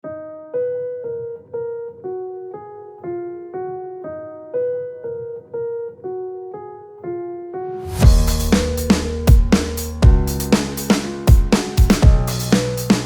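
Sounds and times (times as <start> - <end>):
slow electric piano melody: 0.0 - 13.0.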